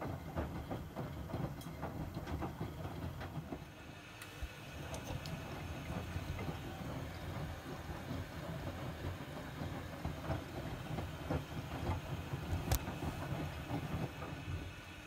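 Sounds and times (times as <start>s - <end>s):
washing machine drum tumbling: 0.0s - 3.8s, 4.4s - 15.0s.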